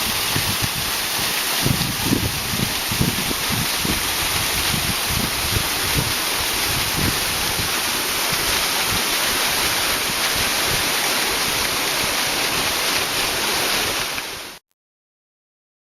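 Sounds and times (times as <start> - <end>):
waterfall roar: 0.0 - 14.6.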